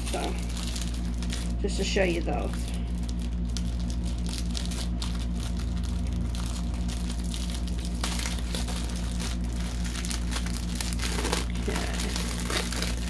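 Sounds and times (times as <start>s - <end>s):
low electrical hum: 0.0s - 13.0s
plastic bags crinkling: 0.0s - 13.0s.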